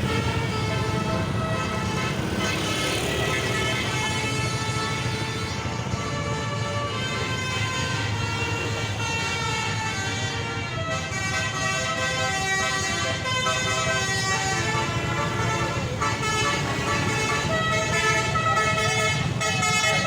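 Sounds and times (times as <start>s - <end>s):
bus engine rumble: 0.0s - 20.0s
multi-trumpet air horn tune: 0.0s - 20.0s.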